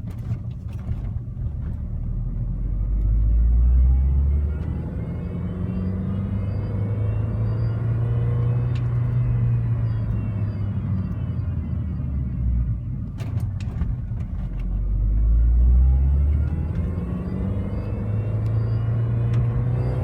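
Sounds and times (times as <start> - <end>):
faint whine: 2.6 - 20.0.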